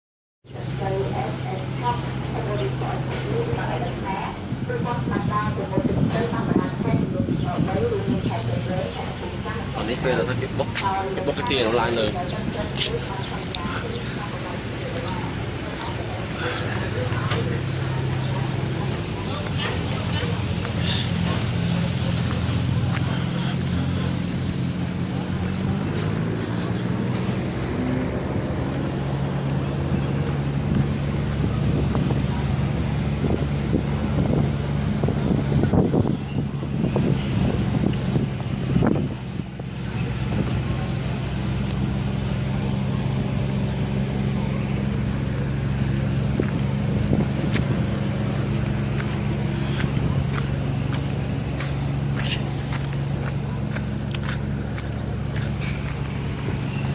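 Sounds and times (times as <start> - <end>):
diesel engine droning: 0.4 - 56.9.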